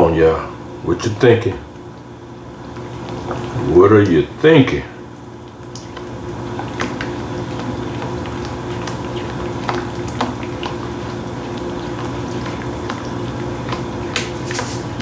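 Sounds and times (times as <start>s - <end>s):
sauce bubbling in a pan: 0.2s - 15.0s.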